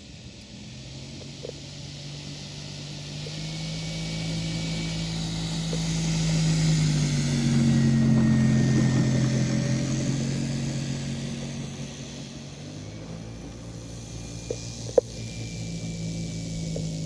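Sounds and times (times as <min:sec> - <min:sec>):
electric motor and propeller hum: 0:00.0 - 0:17.0.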